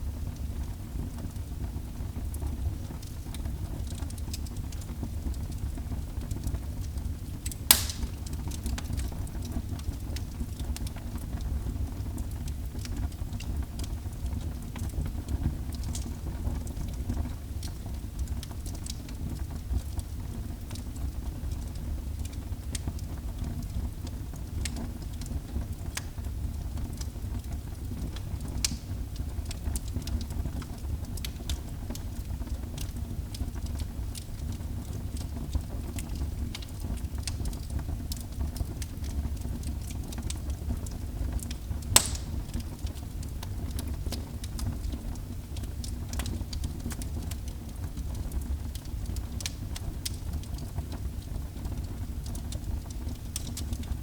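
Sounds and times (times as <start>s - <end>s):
wood fire crackling and popping: 0.1s - 54.0s.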